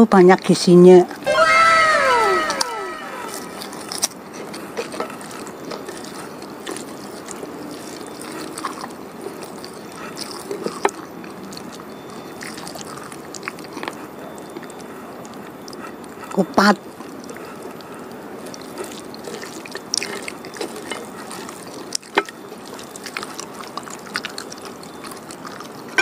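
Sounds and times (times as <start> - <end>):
chewing soft food: 1.8 - 26.0.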